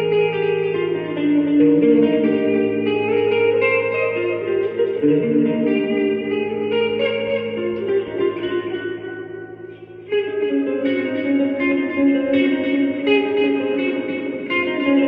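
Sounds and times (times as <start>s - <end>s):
electric guitar with reverb: 0.0s - 15.0s.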